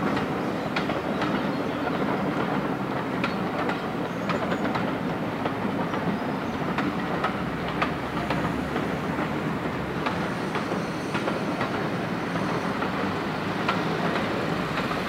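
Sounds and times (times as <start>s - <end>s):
train coaches rumbling past: 0.0s - 15.0s
wheels clicking over rail joints: 0.0s - 15.0s.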